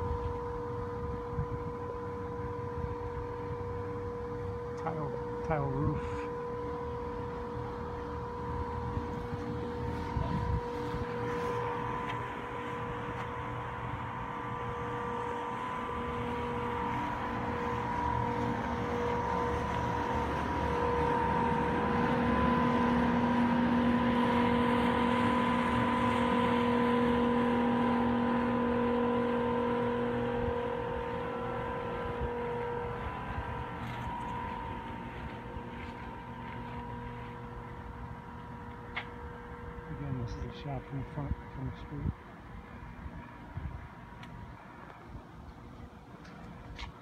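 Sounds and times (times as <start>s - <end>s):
air conditioner units humming: 0.0s - 47.0s
lower hum: 0.0s - 47.0s.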